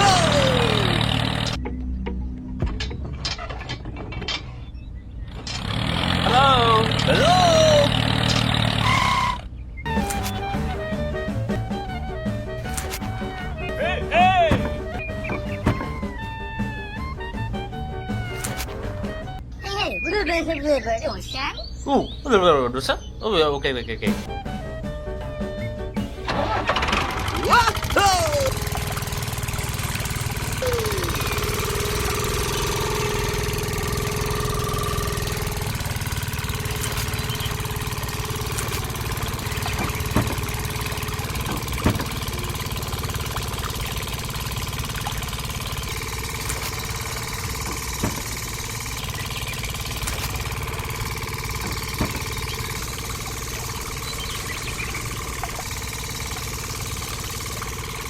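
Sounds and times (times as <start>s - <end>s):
engine idling: 0.0s - 3.0s, 3.7s - 19.6s, 24.3s - 58.0s.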